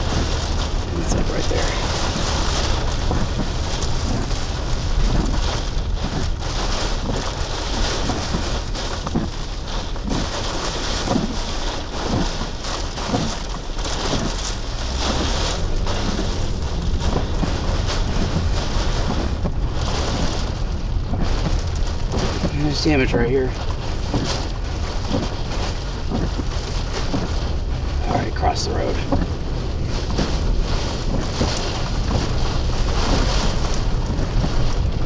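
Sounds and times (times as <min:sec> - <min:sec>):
wind buffeting microphone: 0:00.0 - 0:28.4, 0:29.0 - 0:35.0
heavy rain hissing: 0:00.0 - 0:35.0.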